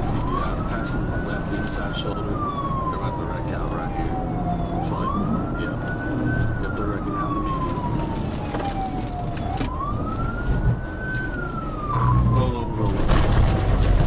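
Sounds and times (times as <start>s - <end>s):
police siren wailing: 0.0s - 14.0s.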